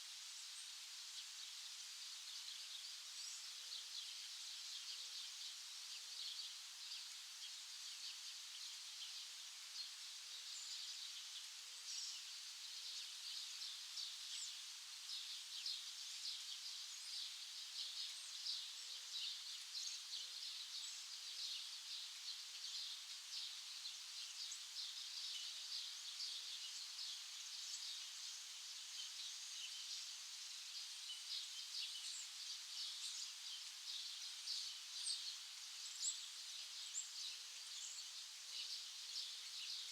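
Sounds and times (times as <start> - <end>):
small birds chirping: 2.2 - 39.9.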